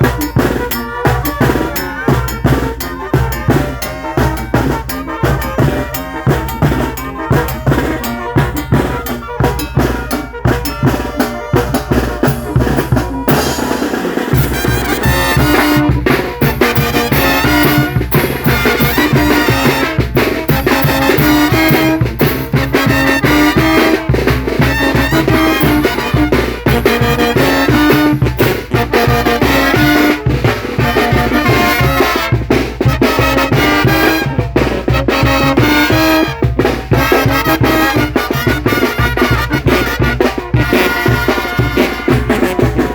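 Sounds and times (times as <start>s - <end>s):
brass band playing: 0.0s - 42.9s
steady drum beat: 0.0s - 42.9s.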